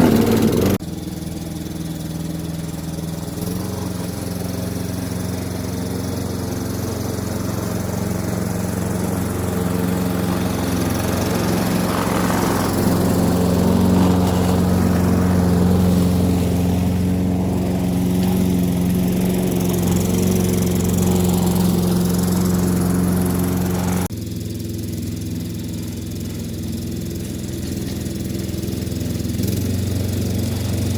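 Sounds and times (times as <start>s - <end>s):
lawn mower engine running: 0.0s - 30.9s.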